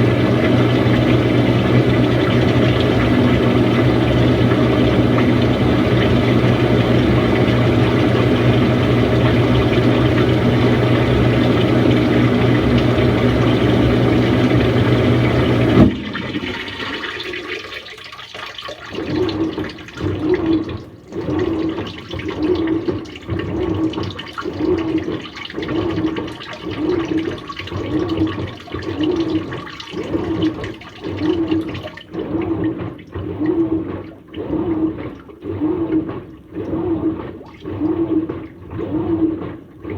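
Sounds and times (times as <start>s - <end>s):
washing machine drum sloshing: 0.0s - 39.9s
water rushing with machine hum: 0.0s - 39.9s.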